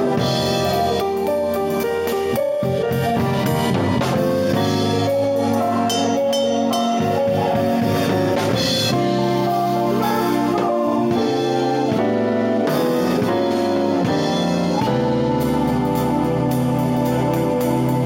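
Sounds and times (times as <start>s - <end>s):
keyboards playing jazz-fusion: 0.0s - 18.0s
steady drum beat: 0.0s - 18.0s.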